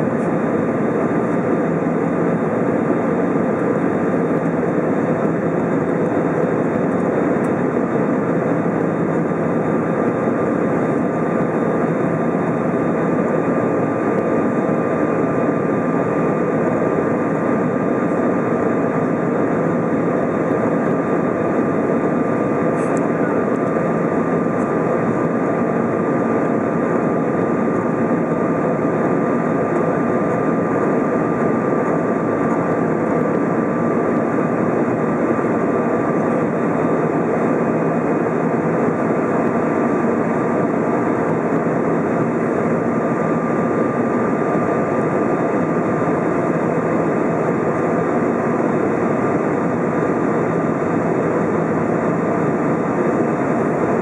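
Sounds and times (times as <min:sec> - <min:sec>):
jet engines roaring: 0:00.0 - 0:54.0
thin steady whine: 0:00.0 - 0:54.0.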